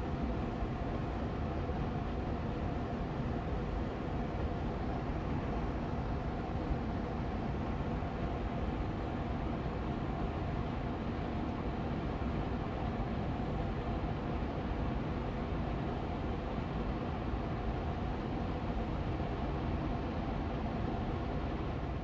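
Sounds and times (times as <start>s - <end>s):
air purifier fan humming: 0.0s - 22.0s.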